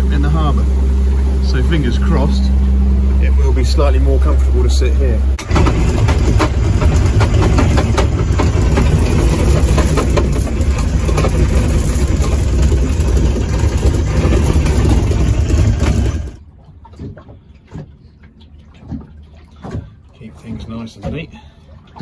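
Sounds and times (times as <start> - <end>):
outboard motor running: 0.0 - 22.0
wind and water noise: 0.0 - 22.0.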